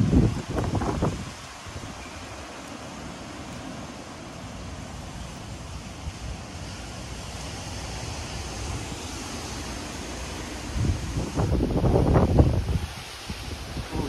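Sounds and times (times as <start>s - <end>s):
hurricane wind through trees: 0.0s - 14.0s
wind buffeting microphone: 0.0s - 14.0s.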